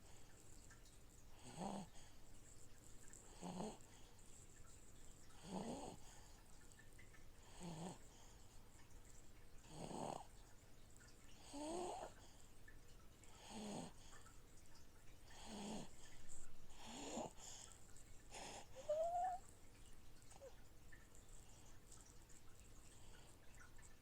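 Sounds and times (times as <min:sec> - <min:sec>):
fish tank filter running: 0:00.0 - 0:24.0.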